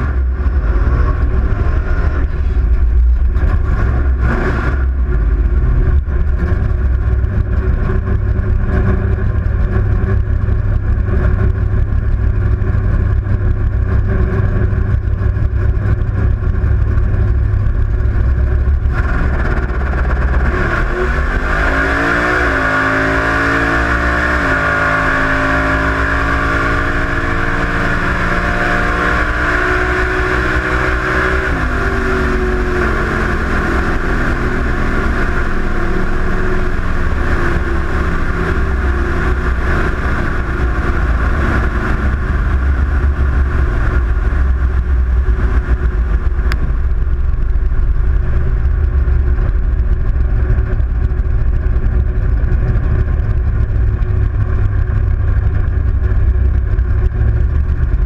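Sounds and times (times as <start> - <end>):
car engine winding down: 0.0 - 58.0
wind rumble on microphone: 0.0 - 58.0.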